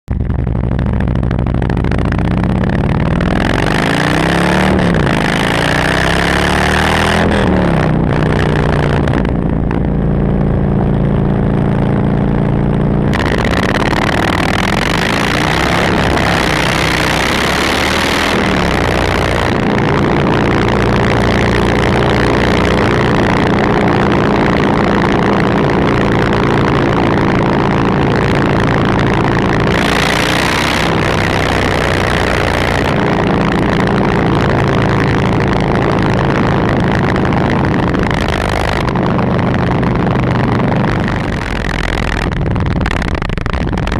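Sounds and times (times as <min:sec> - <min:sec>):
motorcycle engine revving and idling: 0:00.0 - 0:43.9.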